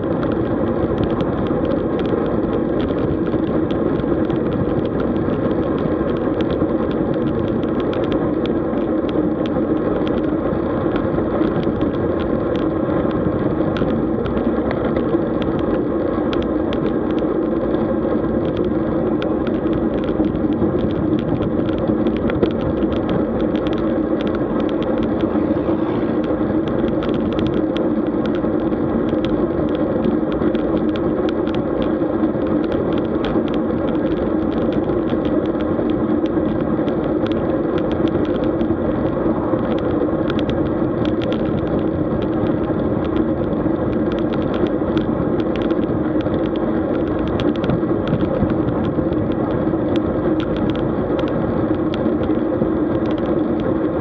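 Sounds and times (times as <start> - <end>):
bicycle ticks and rattles: 0.0 - 54.0
tyre and wind rumble: 0.0 - 54.0.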